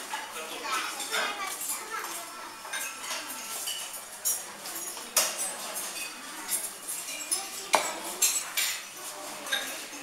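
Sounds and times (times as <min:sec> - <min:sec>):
fork clinking on ceramic plates: 0:00.0 - 0:10.0.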